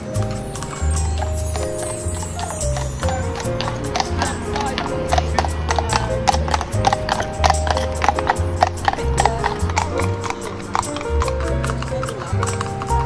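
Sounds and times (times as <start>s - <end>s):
background music with bass: 0.0s - 13.0s
horse hooves clip-clopping on asphalt: 0.0s - 13.0s.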